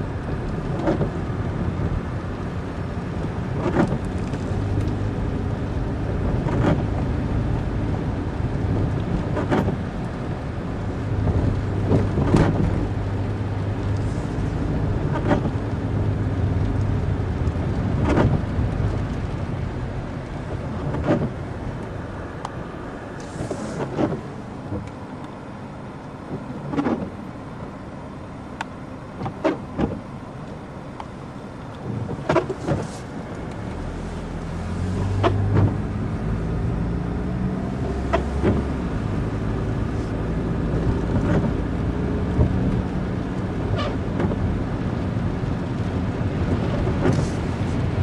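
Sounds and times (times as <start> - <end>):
car engine and road rumble: 0.0 - 48.0.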